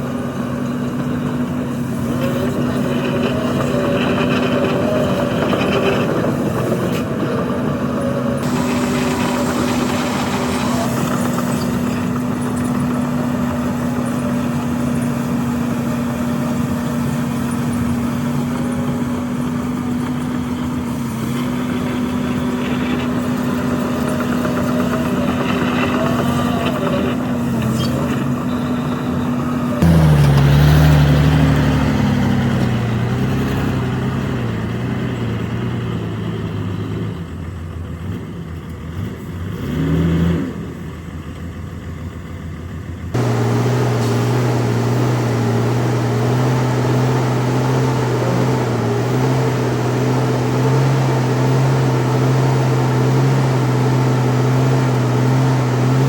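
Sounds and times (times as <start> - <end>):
earthmoving machinery diesel engines: 0.0 - 56.0.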